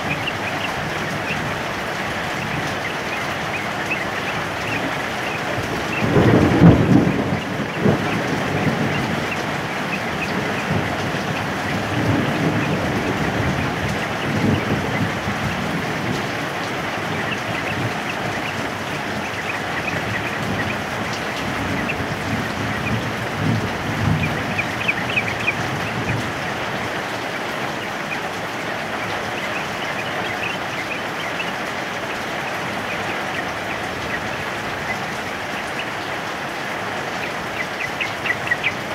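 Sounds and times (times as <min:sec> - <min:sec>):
thunder rumbling: 0:00.0 - 0:31.5
heavy rain falling: 0:00.0 - 0:38.9.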